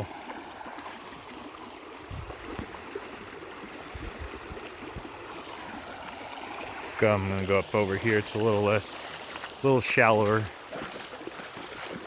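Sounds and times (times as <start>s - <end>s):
creek water trickling over rocks: 0.0s - 12.0s.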